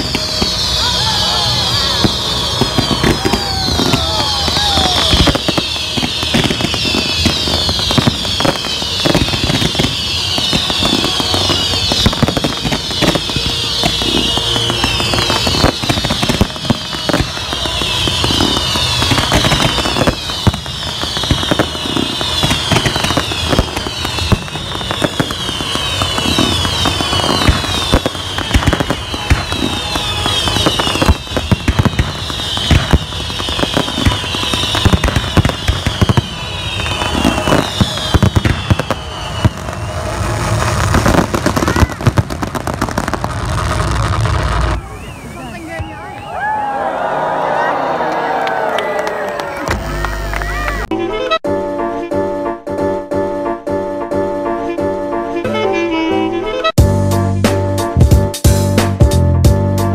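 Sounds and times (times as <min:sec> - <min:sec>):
falling firework whistles: 0:00.0 - 0:50.9
fireworks bangs and crackling: 0:00.0 - 0:51.0.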